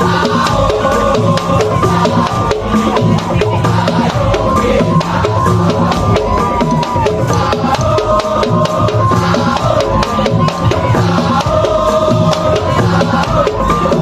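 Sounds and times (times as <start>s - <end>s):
fast dense drumming: 0.0s - 14.0s
sustained melody line: 0.0s - 14.0s.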